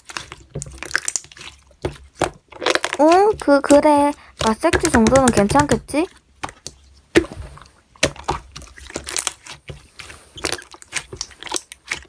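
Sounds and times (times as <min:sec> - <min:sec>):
slime squished by hand: 0:00.0 - 0:12.0.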